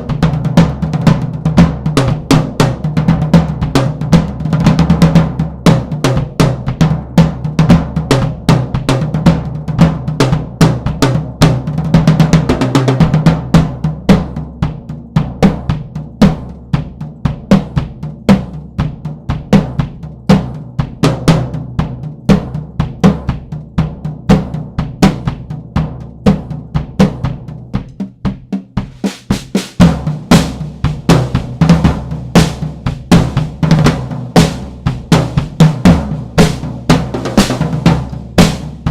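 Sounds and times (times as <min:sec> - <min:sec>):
drum kit playing grooves: 0:00.0 - 0:38.9.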